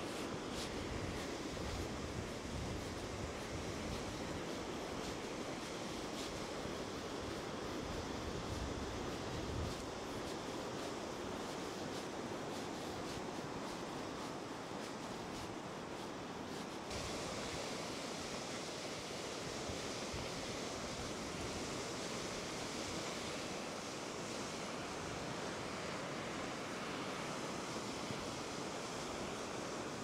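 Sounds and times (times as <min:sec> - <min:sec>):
lake waves washing ashore: 0:00.0 - 0:30.0.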